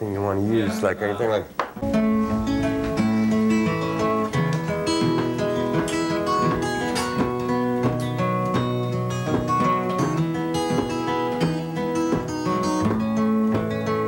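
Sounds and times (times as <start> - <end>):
acoustic guitar fingerpicking: 1.7 - 14.0.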